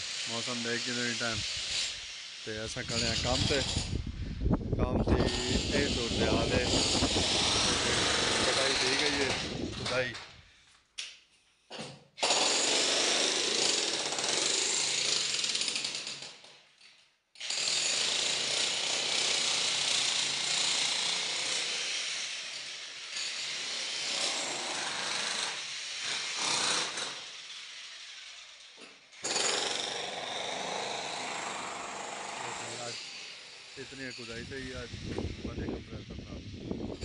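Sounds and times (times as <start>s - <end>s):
power tool grinding concrete: 0.0s - 4.0s, 5.0s - 10.1s, 12.2s - 16.1s, 17.4s - 28.6s, 29.2s - 37.0s.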